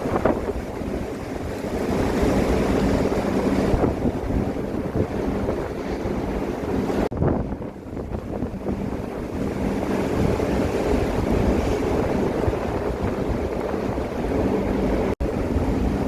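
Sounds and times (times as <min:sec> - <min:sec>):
heavy seas breaking around ship: 0:00.0 - 0:16.0
storm wind buffeting microphone: 0:00.0 - 0:16.0.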